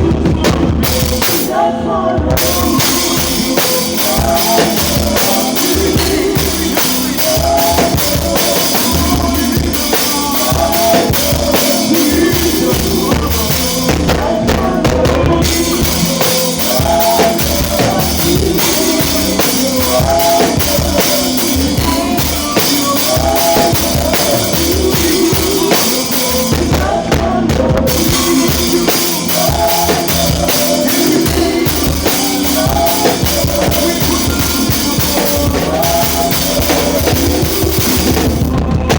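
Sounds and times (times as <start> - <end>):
band playing instrumental groove: 0.0 - 1.7, 2.3 - 38.9
drum kit: 0.0 - 38.9
cymbals: 0.8 - 1.6, 2.4 - 27.0, 27.9 - 38.6.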